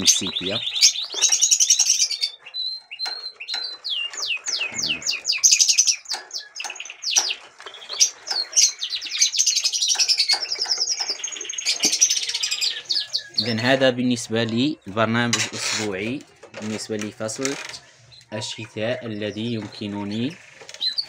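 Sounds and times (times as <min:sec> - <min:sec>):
budgerigars chirping: 0:00.0 - 0:16.0, 0:16.6 - 0:21.0.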